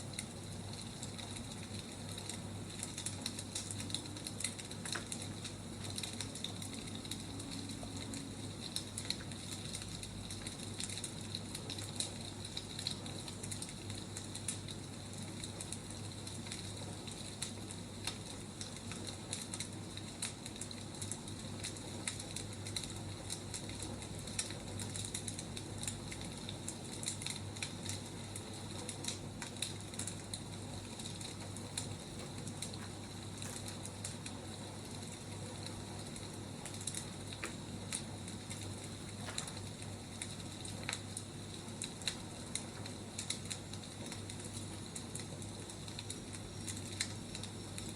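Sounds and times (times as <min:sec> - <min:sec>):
firewood crackling and popping: 0:00.0 - 0:47.9.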